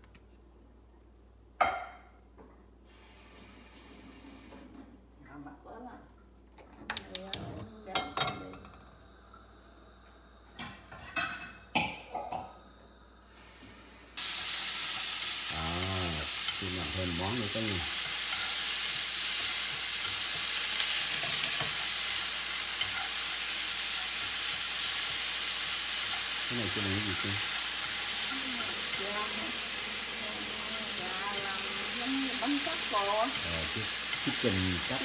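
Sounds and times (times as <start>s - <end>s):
food sizzling in a frying pan: 2.9s - 4.7s, 7.1s - 12.5s, 13.2s - 35.0s.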